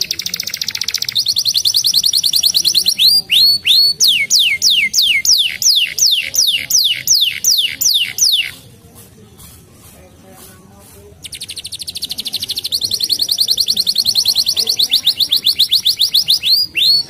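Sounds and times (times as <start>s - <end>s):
canary singing: 0.0s - 8.9s, 10.8s - 17.0s.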